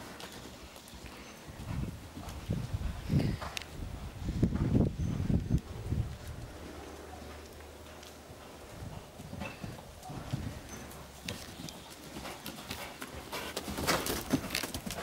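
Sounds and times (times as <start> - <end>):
horse hoofbeats cantering: 0.0 - 15.0.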